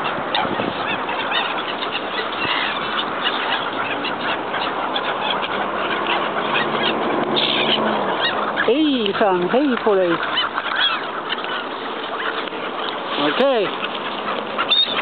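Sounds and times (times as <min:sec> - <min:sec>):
gulls chattering: 0:00.0 - 0:15.0.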